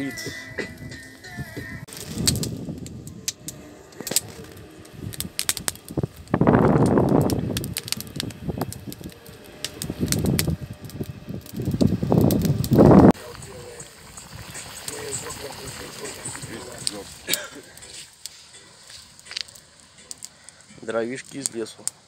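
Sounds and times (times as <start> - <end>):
campfire crackling and popping: 0.0 - 22.0
rushing bursts of fire: 0.0 - 22.0.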